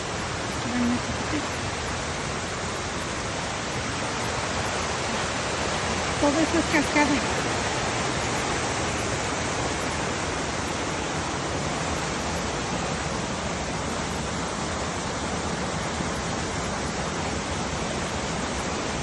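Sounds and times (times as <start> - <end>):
water rushing down cascades: 0.0 - 19.0.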